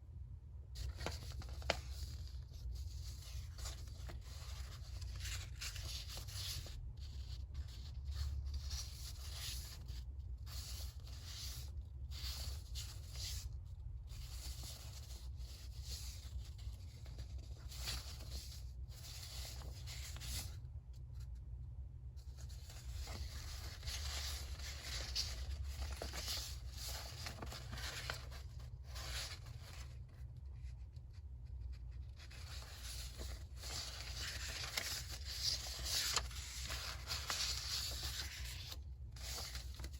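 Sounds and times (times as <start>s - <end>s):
paper rustling: 0.7s - 39.9s.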